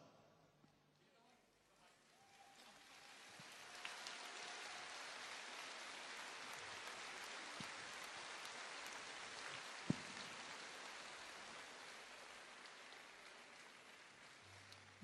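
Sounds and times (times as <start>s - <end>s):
audience noise in a large hall: 0.0s - 15.0s.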